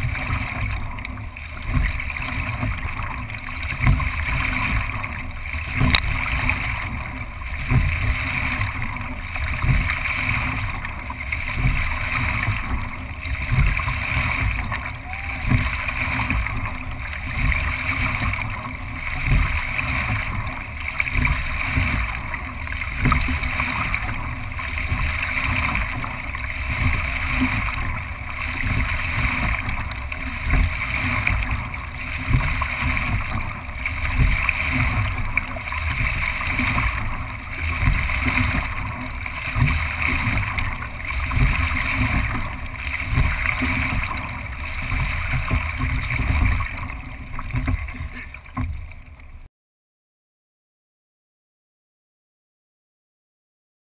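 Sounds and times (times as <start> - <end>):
water rushing along a boat hull: 0.0 - 49.5.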